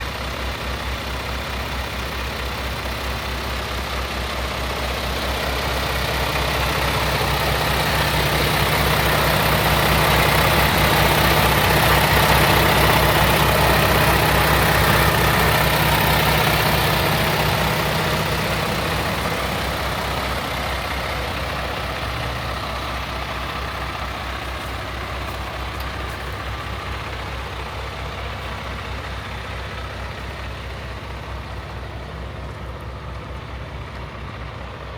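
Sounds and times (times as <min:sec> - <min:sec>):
diesel truck idling: 0:00.0 - 0:34.9.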